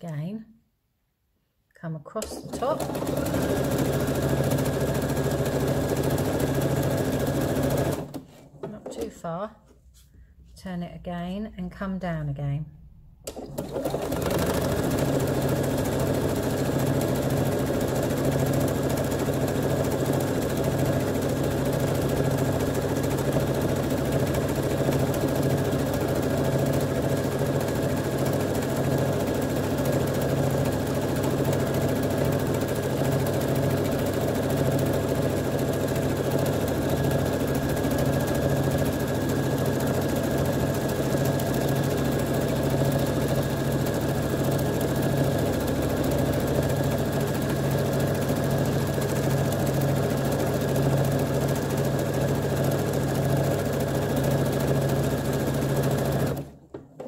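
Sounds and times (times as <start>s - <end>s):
sewing machine stitching: 2.1s - 9.1s, 13.3s - 57.0s.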